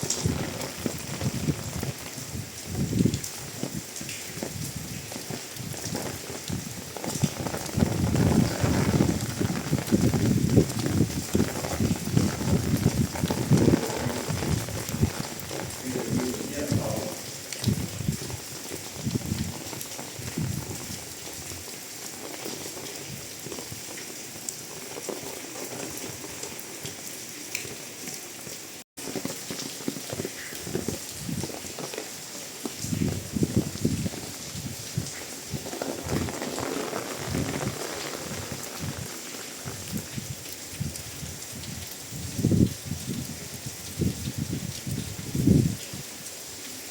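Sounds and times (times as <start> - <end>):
rain pattering: 0.0 - 46.9.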